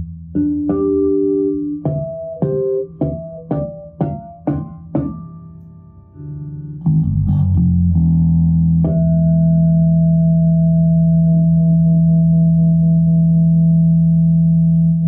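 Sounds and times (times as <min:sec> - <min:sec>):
electric bass plucked notes: 0:00.0 - 0:15.0.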